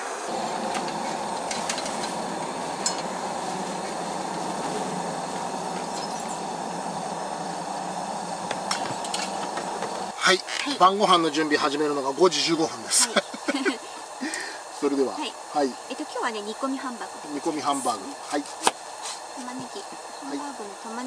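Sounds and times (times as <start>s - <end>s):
pressure lanterns hissing: 0.0s - 21.0s.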